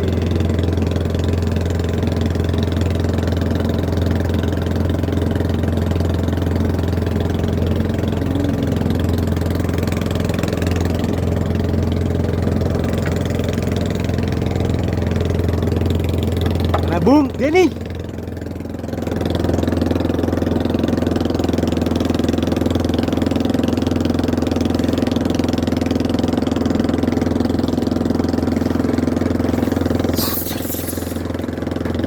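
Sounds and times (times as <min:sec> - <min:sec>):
boat engine low hum: 0:00.0 - 0:32.0.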